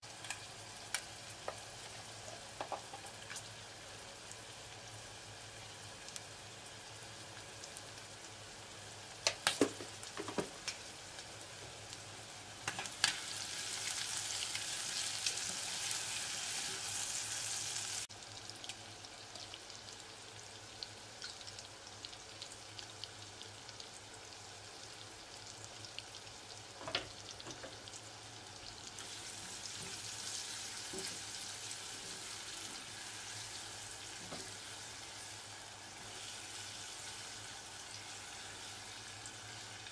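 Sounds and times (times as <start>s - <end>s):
shrimp and onion sizzling in oil: 0.0s - 39.9s.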